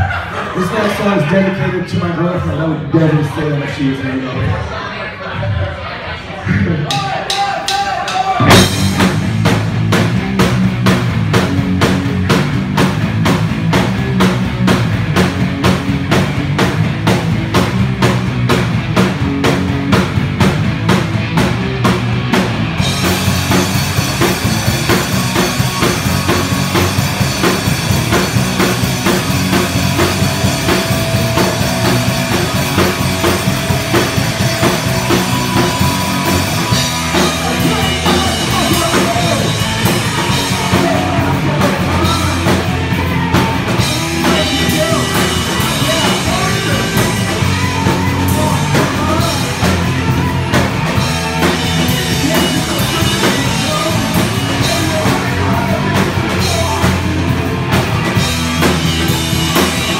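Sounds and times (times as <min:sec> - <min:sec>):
bass guitar: 0:00.0 - 0:59.9
drum kit fast beat: 0:06.9 - 0:59.9
electric guitars: 0:08.4 - 0:59.9.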